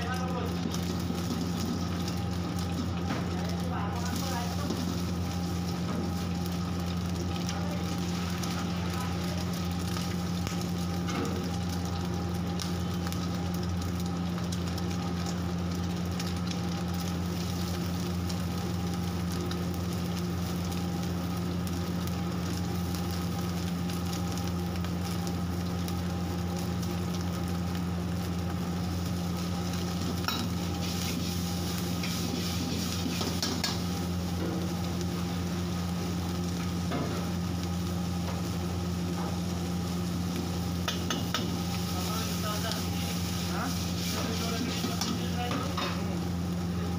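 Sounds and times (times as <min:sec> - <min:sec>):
food sizzling in wok: 0:00.0 - 0:46.9.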